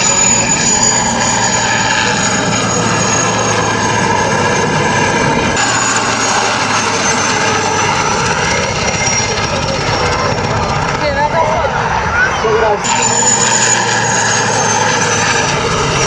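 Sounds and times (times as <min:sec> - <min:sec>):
aircraft engine with falling whine: 0:00.0 - 0:16.0.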